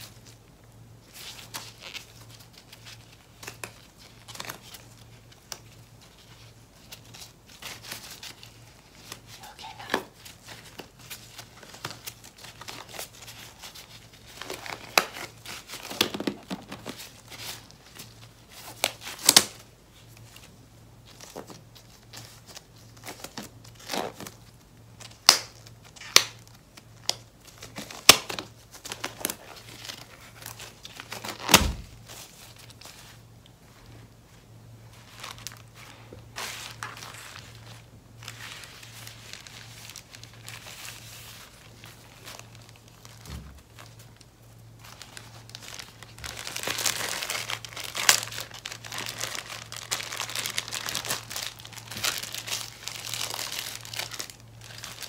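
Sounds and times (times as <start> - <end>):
plastic gloves crinkling: 0.0 - 55.0.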